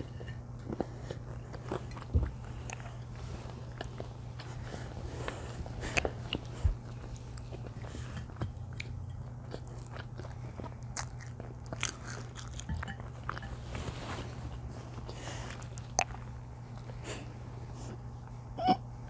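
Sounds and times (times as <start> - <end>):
chewing and biting food: 0.0 - 13.8, 14.5 - 17.0
low hum: 0.0 - 19.0.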